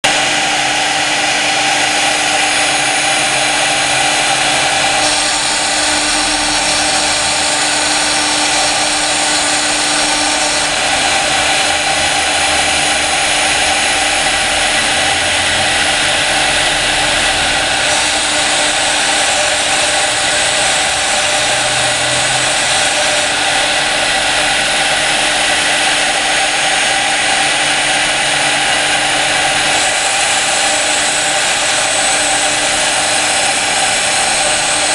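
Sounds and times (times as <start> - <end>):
router spindle whine: 0.0 - 34.9.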